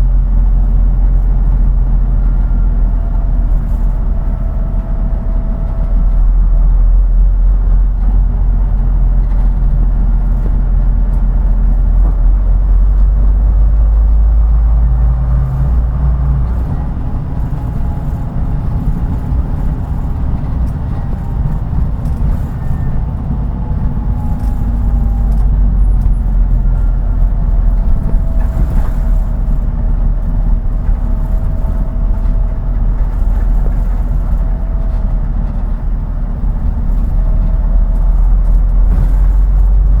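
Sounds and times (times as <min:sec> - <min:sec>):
bus diesel engine rumbling: 0:00.0 - 0:40.0.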